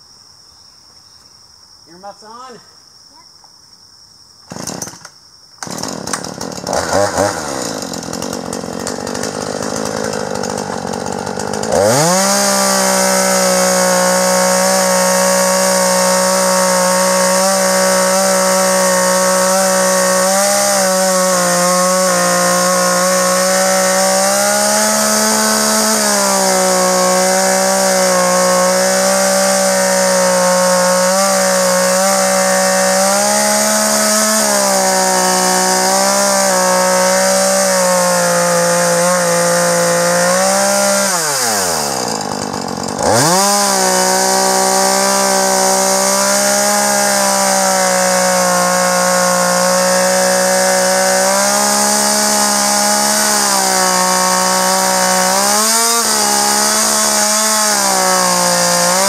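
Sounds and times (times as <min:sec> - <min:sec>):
chainsaw cutting log: 0:04.4 - 0:59.0.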